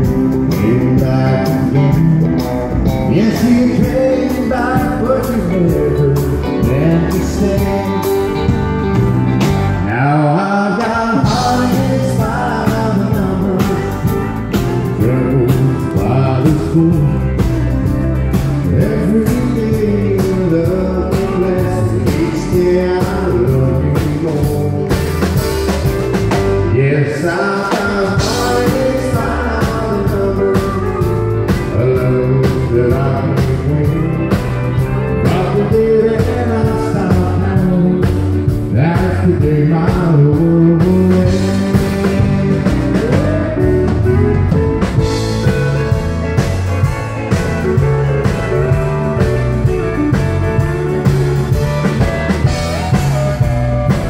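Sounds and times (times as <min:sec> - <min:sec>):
live country band playing: 0:00.0 - 0:54.0.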